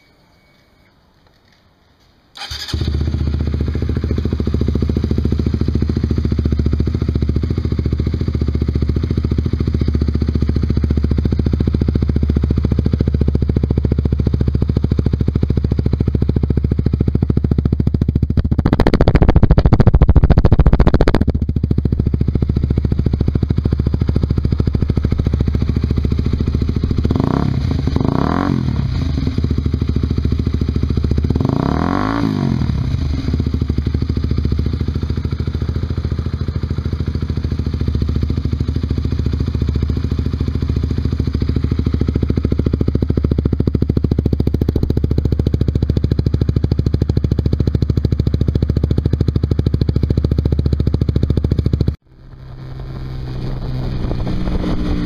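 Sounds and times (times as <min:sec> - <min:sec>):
motorcycle engine while riding: 0:02.4 - 0:55.0.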